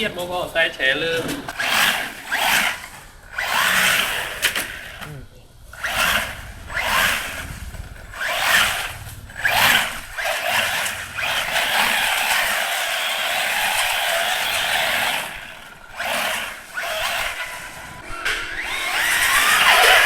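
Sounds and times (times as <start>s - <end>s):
rc truck motor surging: 0.0s - 20.0s
tyres scraping over ground: 0.0s - 20.0s.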